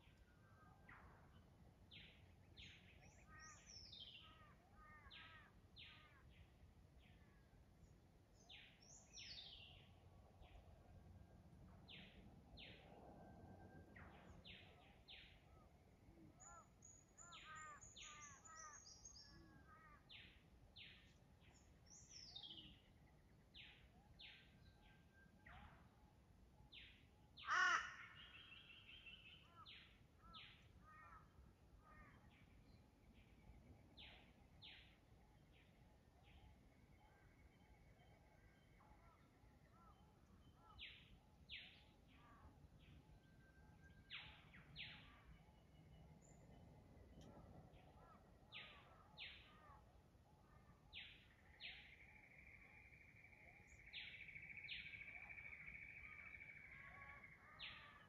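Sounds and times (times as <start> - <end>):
forest birds calling: 0.0 - 10.6, 14.0 - 26.0, 26.6 - 58.0.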